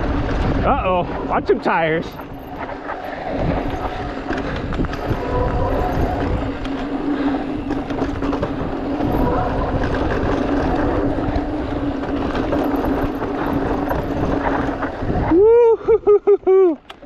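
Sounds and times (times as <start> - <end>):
bike clicks and rattles: 0.0 - 15.4, 16.8 - 17.0
tyres rumbling on dirt: 0.0 - 15.4
electric bike motor hum: 0.0 - 15.8
wind on microphone: 0.0 - 16.0.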